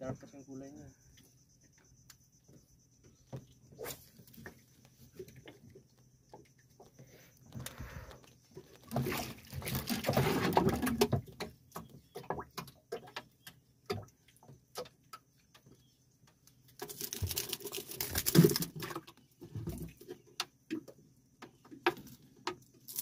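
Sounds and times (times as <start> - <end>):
clicks and knocks in boat: 4.2 - 23.0.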